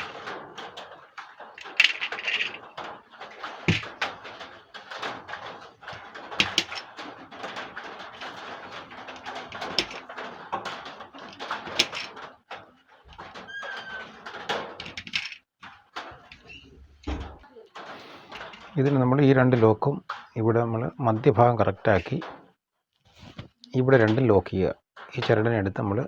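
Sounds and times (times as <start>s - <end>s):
curtain track parts rattling: 0.0s - 22.4s.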